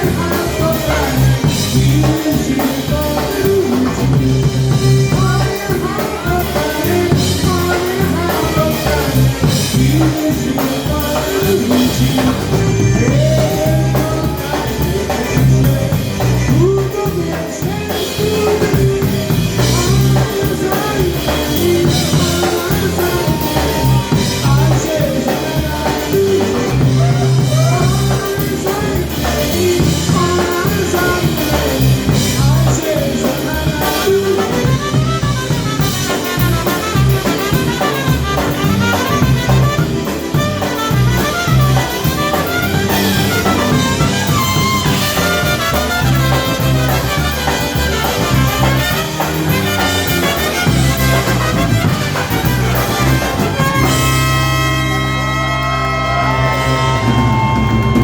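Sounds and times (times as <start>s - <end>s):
polka band playing: 0.0s - 58.0s.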